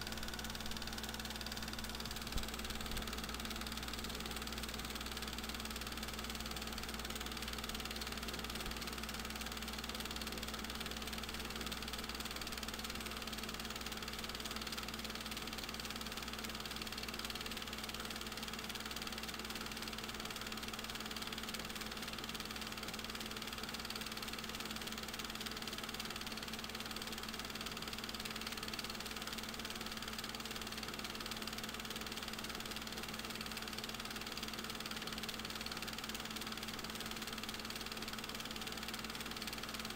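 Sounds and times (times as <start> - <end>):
film projector motor whir: 0.0 - 39.9.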